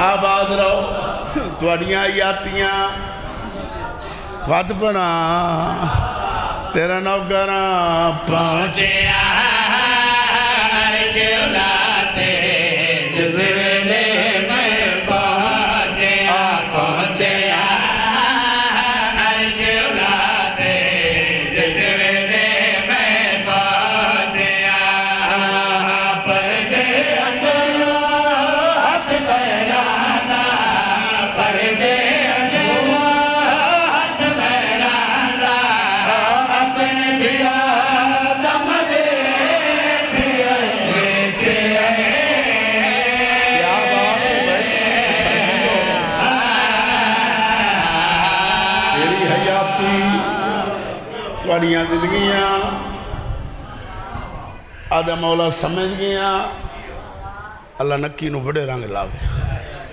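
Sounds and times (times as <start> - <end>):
men chanting through microphones: 0.0 - 57.0.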